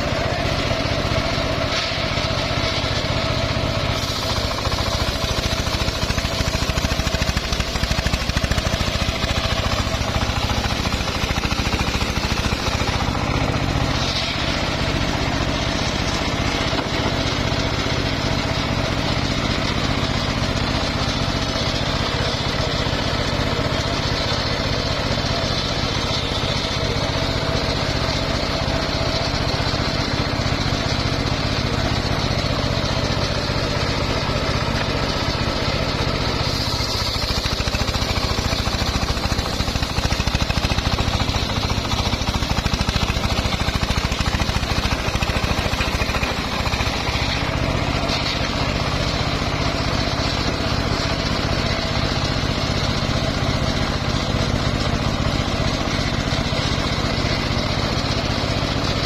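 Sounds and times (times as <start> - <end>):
circular sawmill sawing a log: 0.0 - 59.0.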